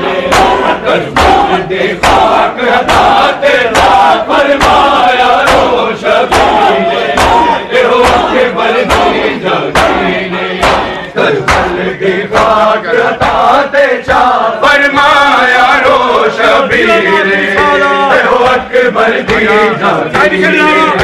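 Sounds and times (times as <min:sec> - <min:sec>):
crowd of men chanting: 0:00.0 - 0:21.0
rhythmic chest-beating slaps: 0:00.0 - 0:21.0.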